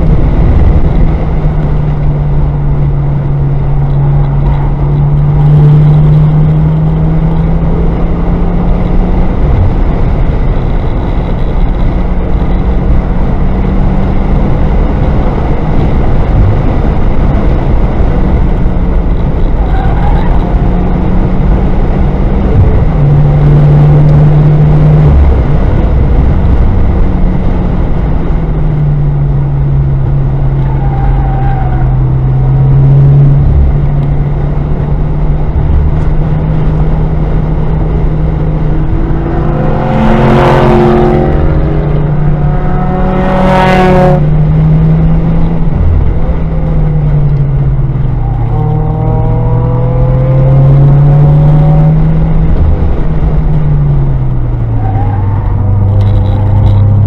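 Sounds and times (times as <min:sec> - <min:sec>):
car engine revving: 0:00.0 - 0:57.0
road noise inside car: 0:00.0 - 0:57.0.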